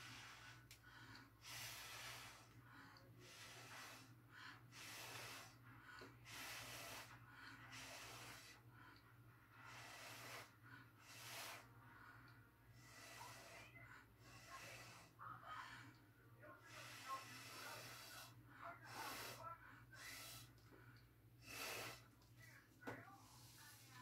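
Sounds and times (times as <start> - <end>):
breath puffs through a straw: 0.0 - 9.0, 9.6 - 15.2, 16.6 - 20.6, 21.4 - 22.2.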